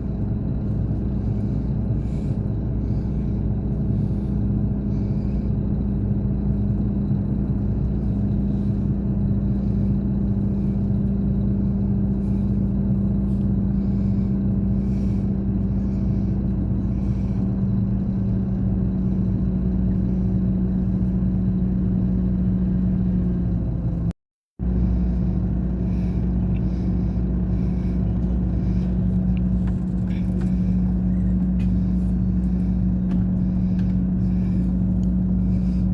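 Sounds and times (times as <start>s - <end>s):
bus engine running steadily: 0.0s - 35.9s.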